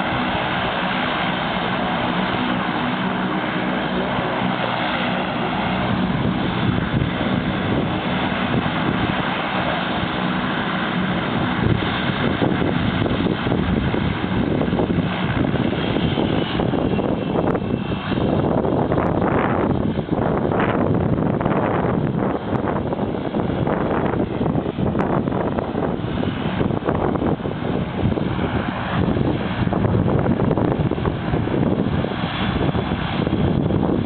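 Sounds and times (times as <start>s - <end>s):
turboprop engine drone: 0.0s - 34.0s.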